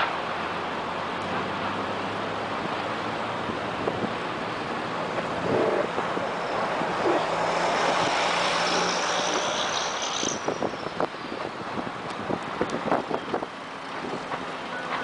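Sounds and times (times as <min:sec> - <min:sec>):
aircraft engine whine overhead: 0:00.0 - 0:15.0
steady rushing noise: 0:00.0 - 0:15.0.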